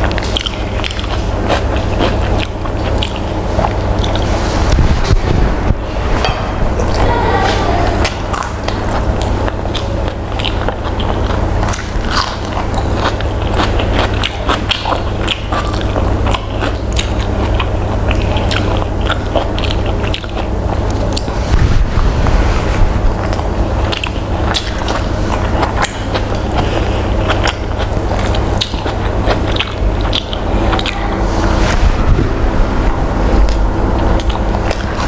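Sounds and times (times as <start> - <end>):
person chewing crunchy food: 0.0 - 5.2, 6.2 - 35.0
steady low hum: 0.0 - 35.0.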